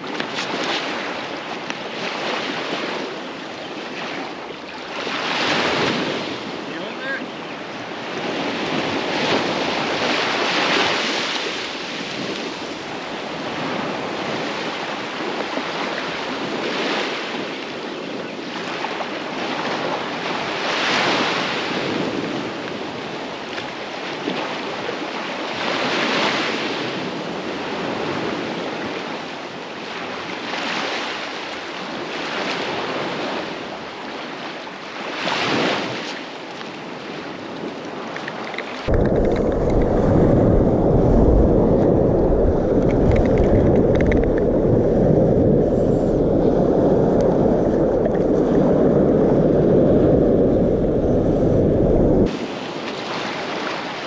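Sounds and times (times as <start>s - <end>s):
surf washing up shore: 0.0s - 54.0s.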